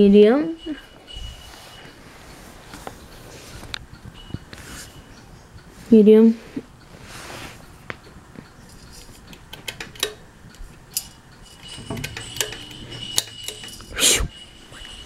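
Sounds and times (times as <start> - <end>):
faint steady high whine: 0.0 - 9.2, 9.9 - 15.0
ceiling fan running: 0.0 - 15.0.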